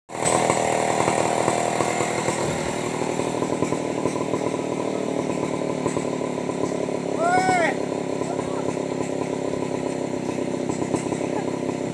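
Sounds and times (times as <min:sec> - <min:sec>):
chainsaw running: 0:00.1 - 0:11.9.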